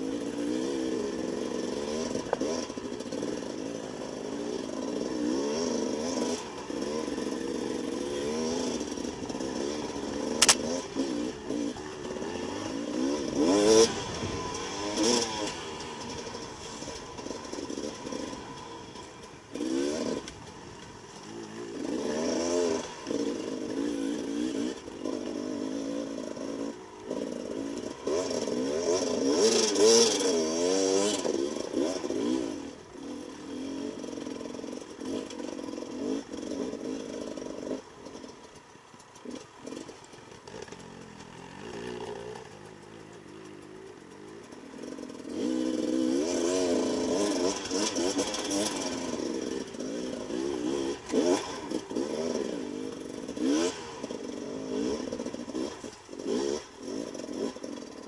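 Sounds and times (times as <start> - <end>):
two-stroke motorbike engine revving: 0.0 - 58.0.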